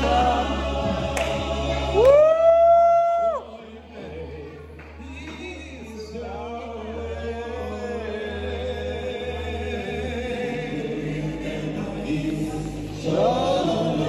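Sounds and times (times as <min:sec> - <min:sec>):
low musical accompaniment: 0:00.0 - 0:14.0.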